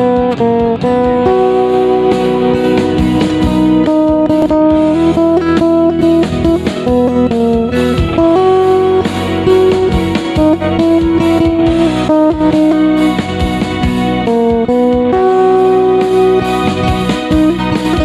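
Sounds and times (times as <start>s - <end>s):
plucked lute melody: 0.0s - 18.0s.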